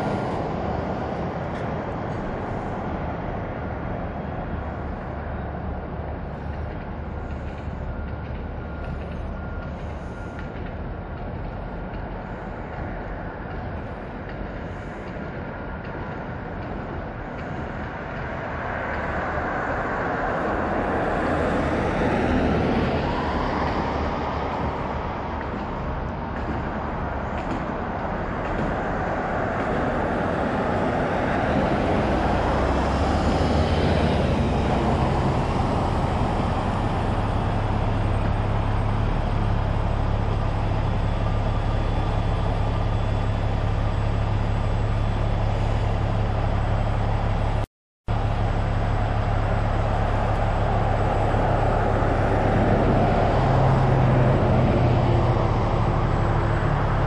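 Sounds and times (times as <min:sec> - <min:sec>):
road noise rushing: 0:00.0 - 0:57.0
vehicles passing: 0:00.0 - 0:57.0.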